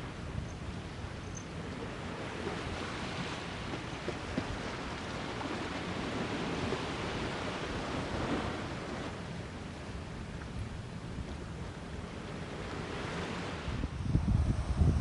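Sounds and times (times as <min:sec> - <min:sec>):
sea waves washing onto shore: 0:00.0 - 0:14.0
wind: 0:00.0 - 0:15.0.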